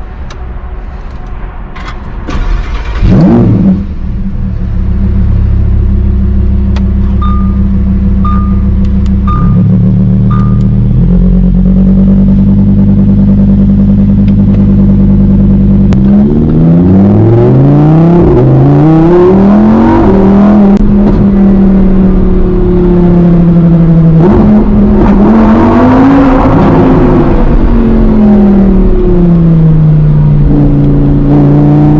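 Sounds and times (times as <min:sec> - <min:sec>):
supercar engine accelerating: 0:02.3 - 0:31.9.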